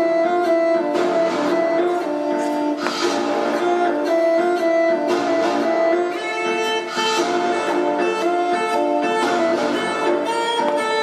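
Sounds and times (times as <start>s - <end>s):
plucked strings: 0.0s - 11.0s
violin melody: 0.0s - 11.0s.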